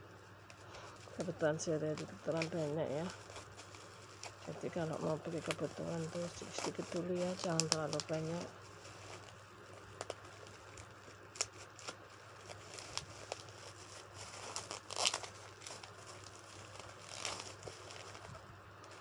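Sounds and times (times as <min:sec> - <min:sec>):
packaging crinkling and ripping: 0:00.1 - 0:19.0.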